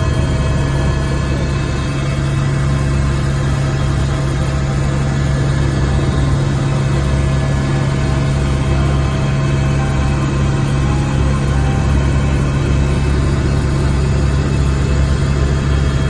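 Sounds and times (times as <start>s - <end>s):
helicopter engine and rotor: 0.0s - 16.0s.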